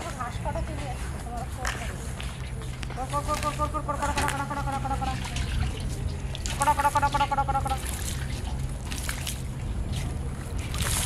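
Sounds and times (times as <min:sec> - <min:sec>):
steady low hum: 0:00.0 - 0:11.0
water trickling in metal basin: 0:02.1 - 0:11.0.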